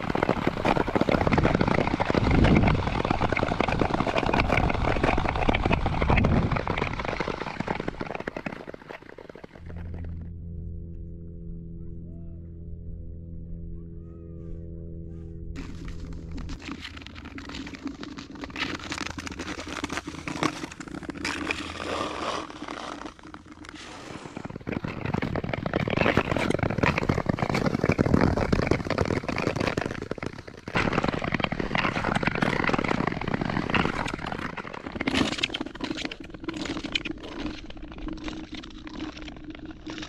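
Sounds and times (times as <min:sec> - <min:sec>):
skate blades scraping ice: 0:00.0 - 0:09.9, 0:15.6 - 0:40.0.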